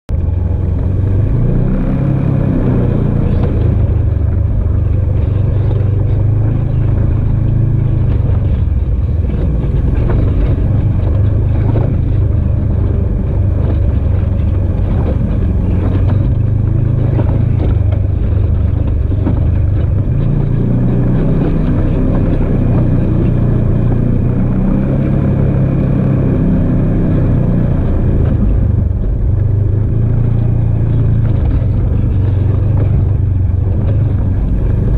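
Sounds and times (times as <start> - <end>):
off-road vehicle engine running: 0.1 - 34.9.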